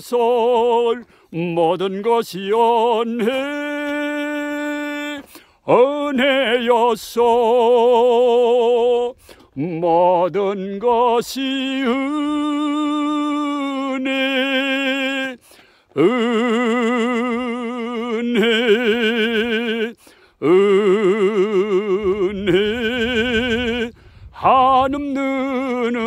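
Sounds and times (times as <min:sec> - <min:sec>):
person singing with vibrato: 0:00.0 - 0:26.0.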